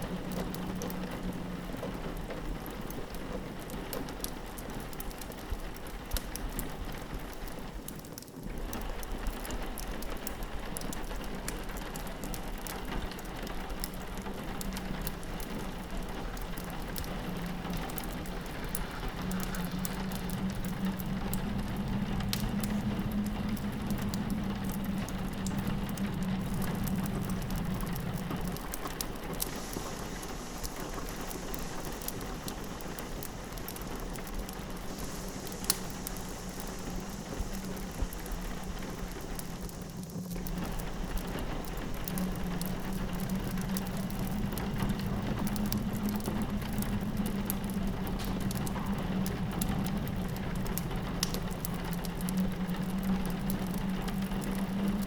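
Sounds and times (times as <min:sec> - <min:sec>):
fireplace crackling: 0:00.0 - 0:55.0
low wind howl: 0:00.0 - 0:55.0
rain pattering on window: 0:00.0 - 0:55.0
fire popping: 0:02.7 - 0:55.0.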